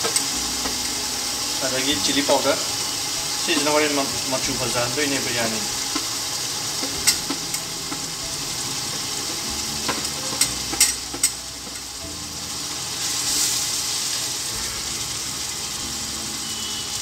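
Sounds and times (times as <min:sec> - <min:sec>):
sizzling hiss from a pot: 0:00.0 - 0:17.0.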